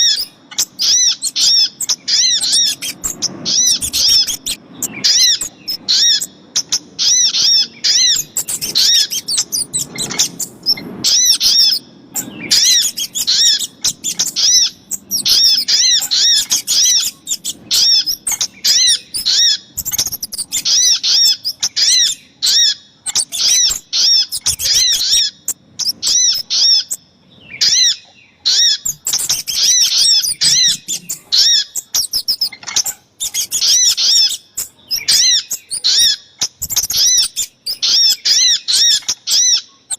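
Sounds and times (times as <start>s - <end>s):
fast sharp bird chirps: 0.0s - 27.0s, 27.6s - 39.9s.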